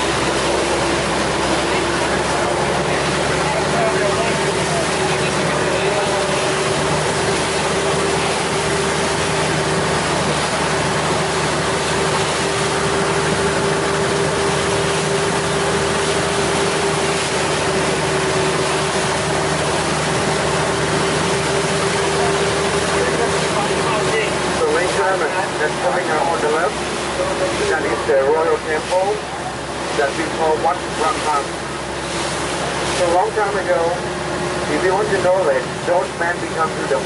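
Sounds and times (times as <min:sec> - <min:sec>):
boat engine running steadily: 0:00.0 - 0:37.0
choppy water rushing: 0:00.0 - 0:37.0
wind: 0:00.0 - 0:37.0.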